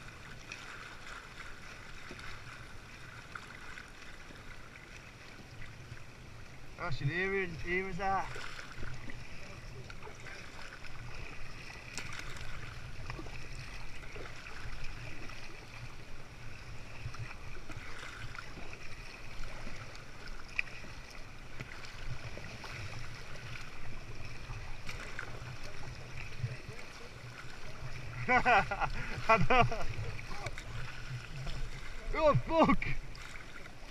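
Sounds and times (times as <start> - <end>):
water sloshing around a kayak: 0.0 - 33.9.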